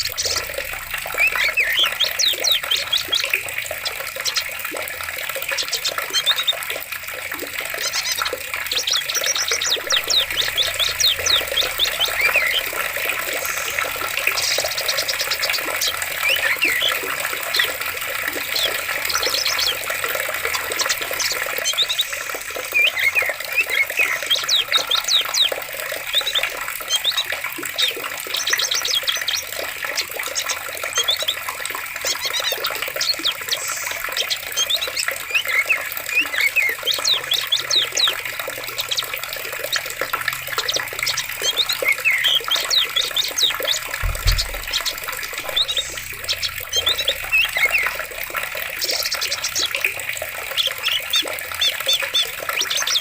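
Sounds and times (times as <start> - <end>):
birds chirping and trilling: 0.0 - 53.0
water rushing: 0.0 - 53.0.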